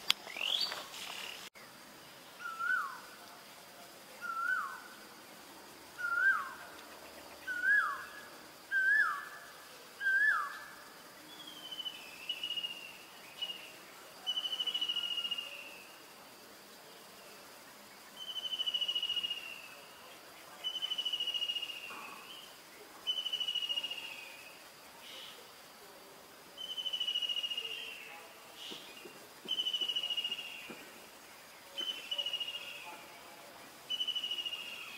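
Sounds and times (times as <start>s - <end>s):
faint insect hum: 0.0s - 34.9s.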